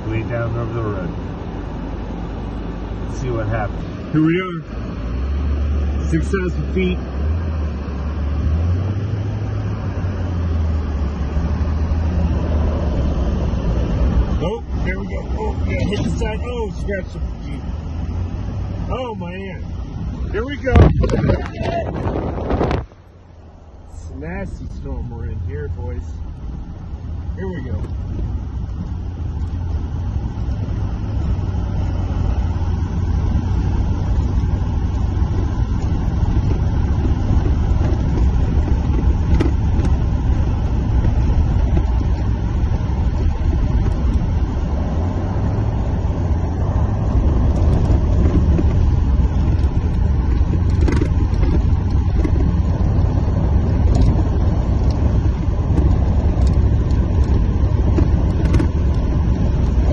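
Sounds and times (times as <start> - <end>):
vehicle engine and tyres rumbling: 0.0 - 59.9.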